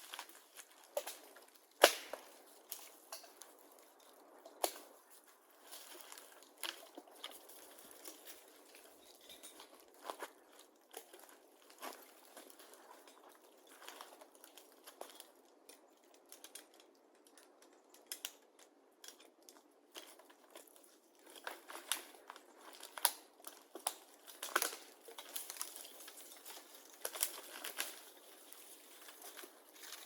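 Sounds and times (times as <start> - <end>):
rustling and crackling: 0.0 - 18.4, 19.0 - 30.0.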